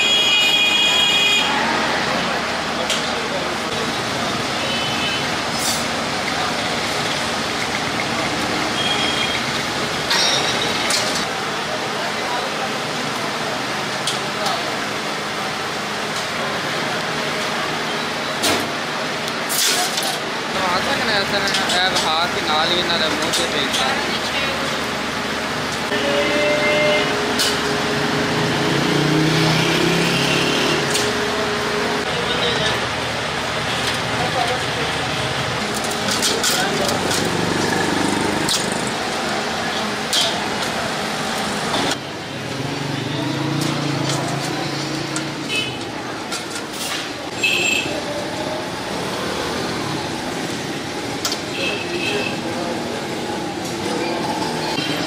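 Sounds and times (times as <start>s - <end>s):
street noise: 0.0s - 55.0s
passing traffic rumble: 1.4s - 55.0s.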